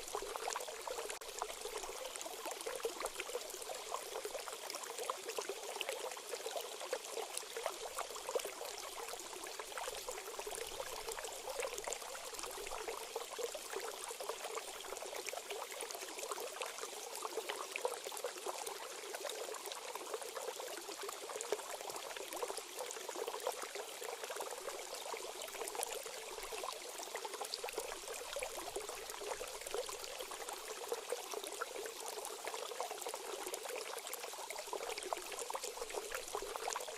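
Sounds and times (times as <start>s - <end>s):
stream water flowing: 0.0s - 36.9s.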